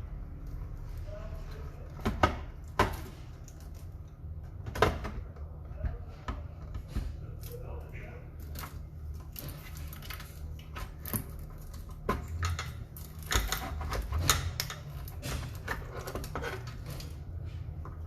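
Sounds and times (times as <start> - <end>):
low steady hum: 0.0 - 18.0
hard parts clicking and rattling: 0.4 - 18.0.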